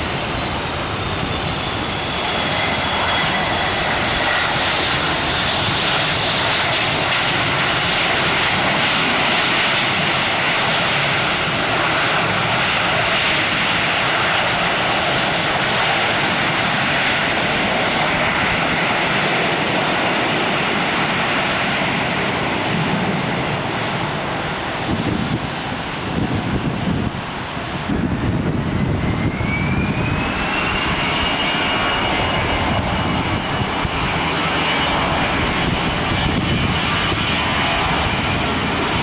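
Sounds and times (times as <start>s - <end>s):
jet engines rushing: 0.0s - 39.0s.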